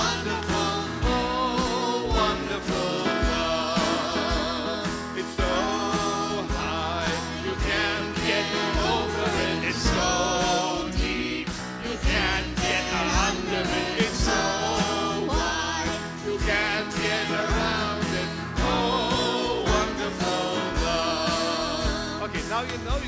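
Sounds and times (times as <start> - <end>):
upbeat gospel song: 0.0 - 23.0.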